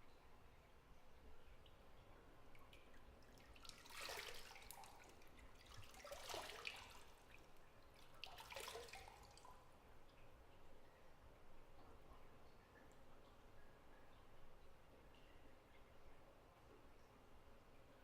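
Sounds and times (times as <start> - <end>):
soft water drips: 0.0 - 18.0
bathwater splashing faintly: 1.4 - 17.1.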